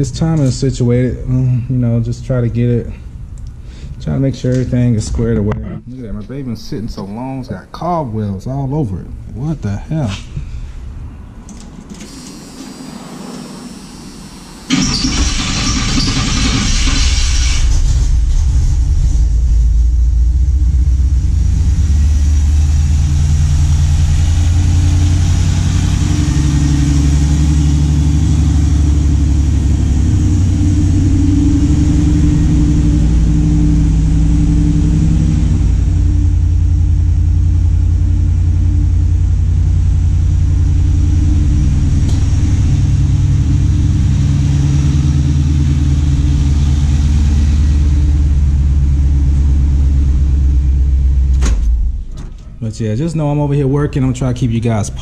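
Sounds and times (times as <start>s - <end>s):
pickup engine starting and idling: 0.0s - 55.0s.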